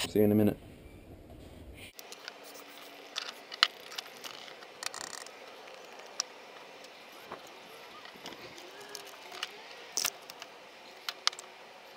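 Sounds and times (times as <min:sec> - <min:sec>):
small parts clicking and tapping: 0:02.0 - 0:11.6.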